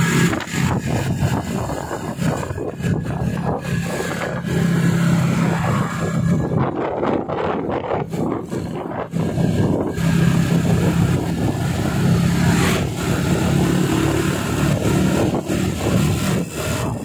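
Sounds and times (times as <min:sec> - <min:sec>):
vehicle engine humming: 0:00.0 - 0:17.0
wind and road noise: 0:00.0 - 0:17.0.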